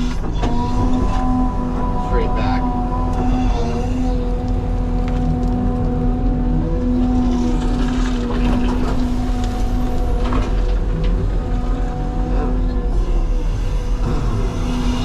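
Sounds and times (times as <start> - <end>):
excavator engine and hydraulics: 0.0 - 15.0
steady whine: 0.0 - 15.0.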